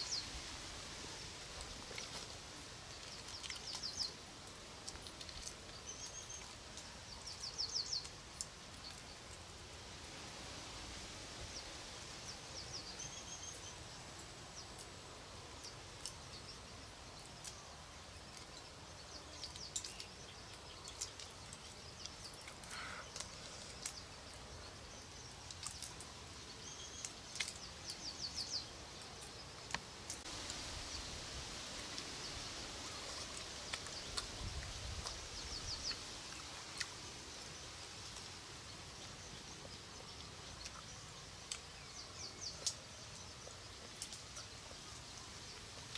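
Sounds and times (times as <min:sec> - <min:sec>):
steady background hiss: 0:00.0 - 0:45.9.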